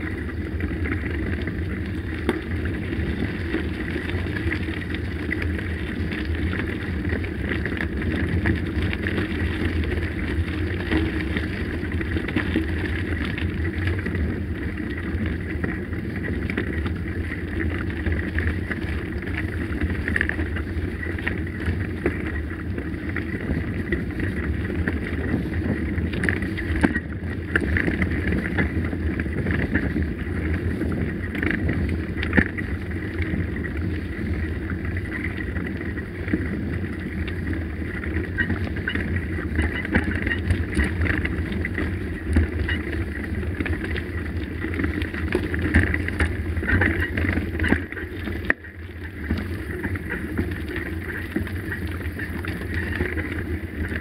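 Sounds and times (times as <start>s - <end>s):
bike rattling and knocking: 0.0s - 54.0s
bike tyres rumbling on gravel: 0.0s - 54.0s
wind buffeting microphone: 0.0s - 54.0s.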